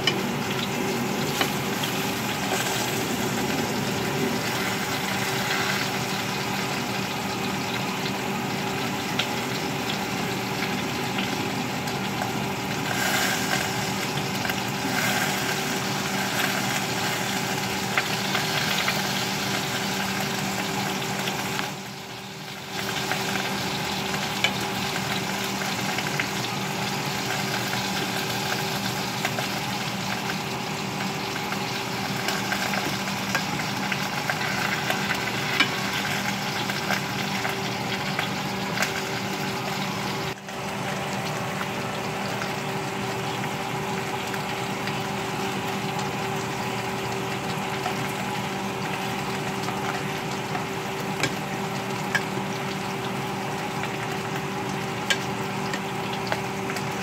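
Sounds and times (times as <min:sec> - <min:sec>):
potatoes sizzling in a skillet: 0:00.0 - 0:57.0.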